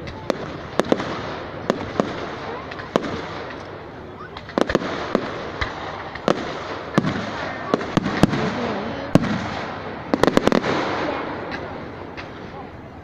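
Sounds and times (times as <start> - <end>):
fireworks sharp bangs: 0.0 - 12.8.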